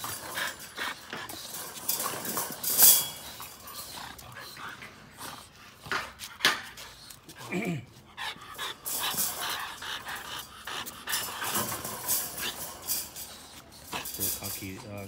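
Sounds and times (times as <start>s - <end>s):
puppies panting: 0.0s - 15.0s.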